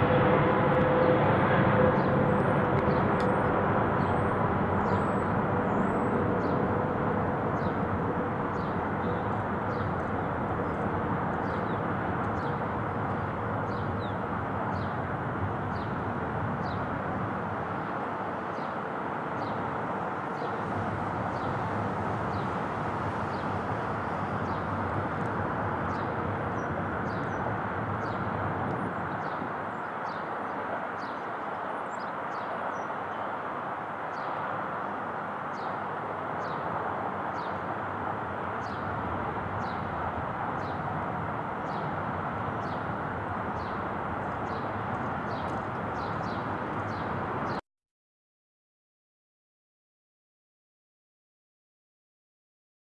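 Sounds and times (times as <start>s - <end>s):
distant jet engines roaring: 0.0s - 47.6s.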